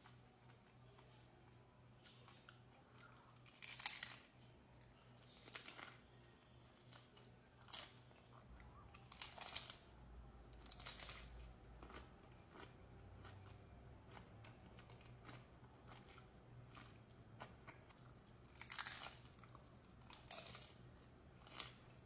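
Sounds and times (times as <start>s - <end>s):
soft chewing: 0.0s - 22.0s
crunching taco shell: 2.1s - 22.0s.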